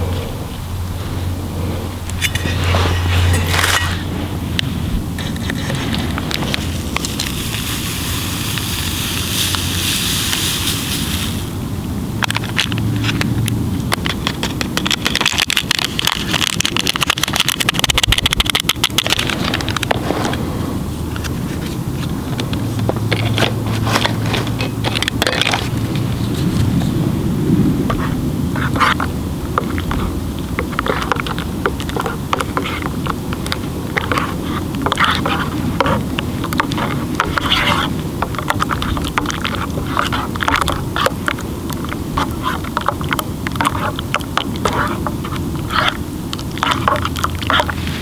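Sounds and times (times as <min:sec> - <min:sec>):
stove low rush: 0:00.0 - 0:48.0
water boiling hard: 0:00.0 - 0:48.0
plastic spoon scraping metal cup: 0:02.1 - 0:04.2, 0:05.2 - 0:11.4, 0:12.2 - 0:20.4, 0:21.2 - 0:26.7, 0:27.9 - 0:48.0.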